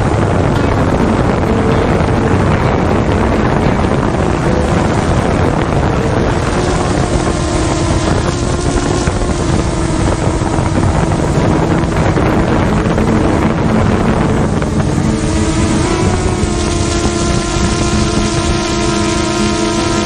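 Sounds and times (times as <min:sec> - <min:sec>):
engine running: 0:00.0 - 0:20.0
wind noise on microphone: 0:00.0 - 0:20.0.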